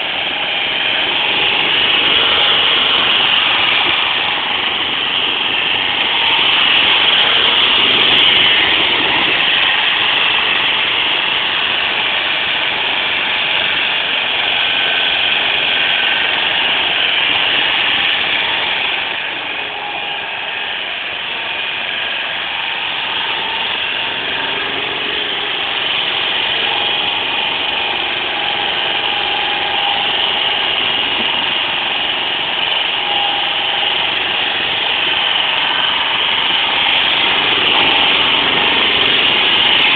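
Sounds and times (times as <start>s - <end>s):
forklift engine running: 0.0s - 39.9s.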